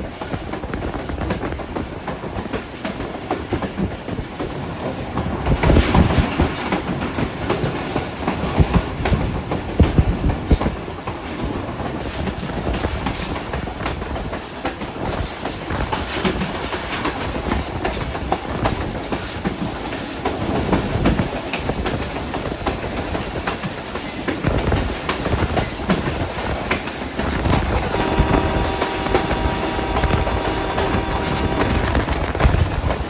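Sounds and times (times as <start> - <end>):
train wheels clattering over rail joints: 0.0 - 33.0.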